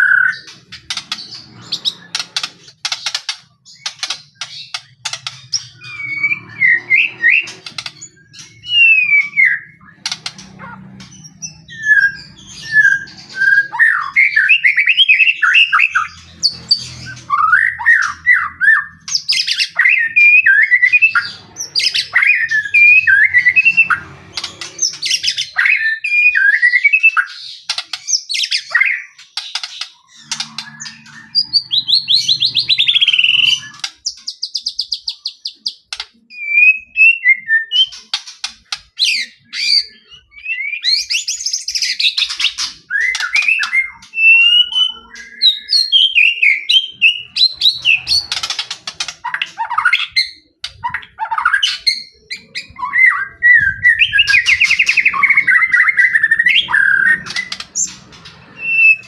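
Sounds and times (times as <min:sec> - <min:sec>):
bird whistled song: 0:00.0 - 0:02.4, 0:03.7 - 0:38.2, 0:38.9 - 0:59.0
bird buzzy trills: 0:00.0 - 0:34.8, 0:41.3 - 0:59.0.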